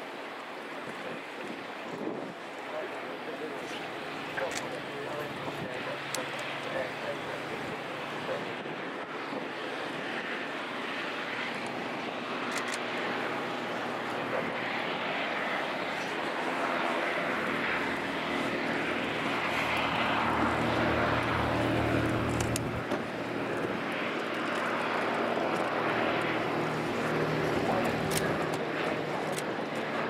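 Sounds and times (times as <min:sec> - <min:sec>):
propeller aircraft droning overhead: 0:00.0 - 0:30.0.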